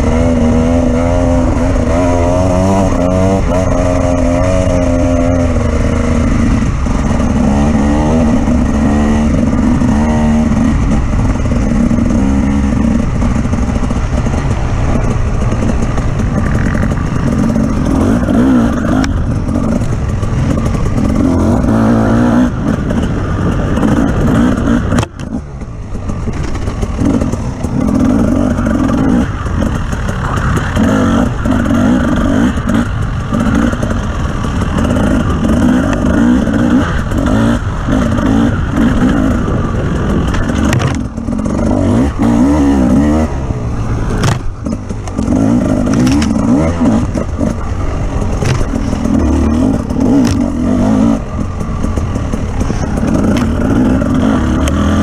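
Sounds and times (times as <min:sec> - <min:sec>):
off-road vehicle engine revving: 0:00.0 - 0:55.0
vehicle clattering over rough ground: 0:00.0 - 0:55.0.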